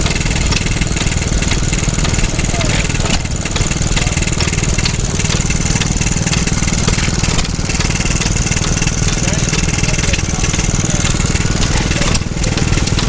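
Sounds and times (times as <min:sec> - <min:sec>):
stationary engine running: 0:00.0 - 0:13.0.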